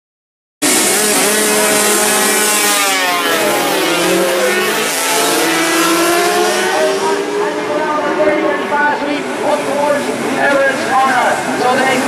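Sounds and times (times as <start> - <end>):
racing motorcycles accelerating: 0.6 - 12.0.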